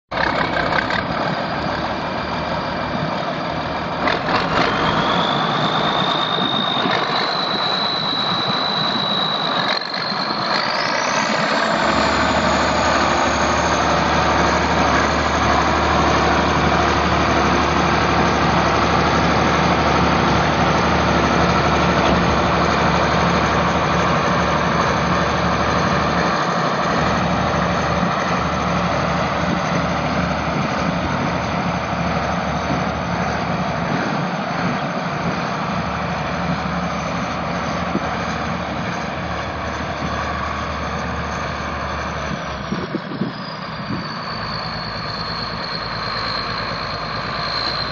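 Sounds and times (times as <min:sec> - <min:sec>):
tractor diesel engine running: 0:00.1 - 0:47.9
high whine climbing in pitch: 0:01.0 - 0:47.9.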